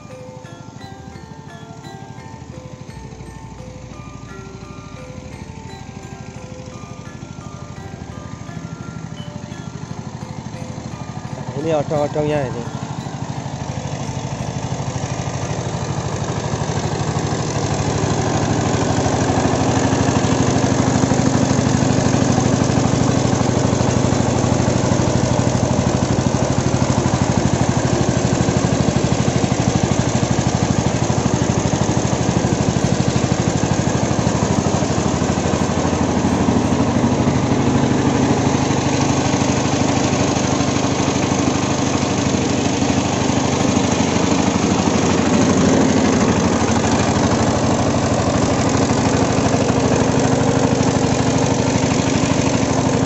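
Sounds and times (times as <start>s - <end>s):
small engine running steadily: 0.0s - 53.0s.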